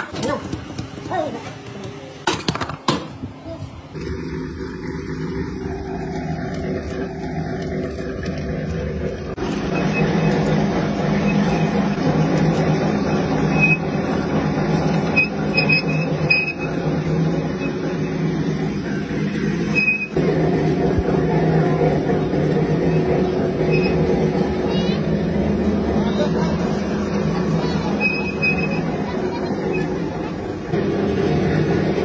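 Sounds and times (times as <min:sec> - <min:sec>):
sugarcane crusher humming: 0:03.4 - 0:32.0
rollers crushing cane stalks: 0:03.9 - 0:32.0.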